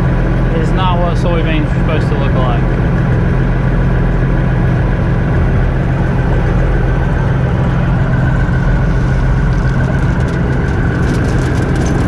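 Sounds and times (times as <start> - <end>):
combine harvester engine drone: 0.0 - 12.0
faint machinery whine: 0.0 - 12.0.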